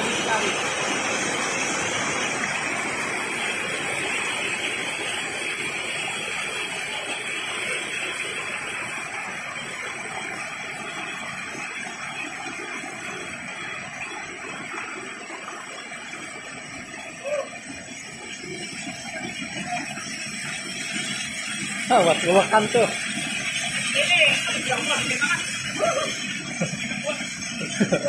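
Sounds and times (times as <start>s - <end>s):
stream rushing over stones: 0.0s - 28.0s
waterfall pouring onto rocks: 0.0s - 28.0s.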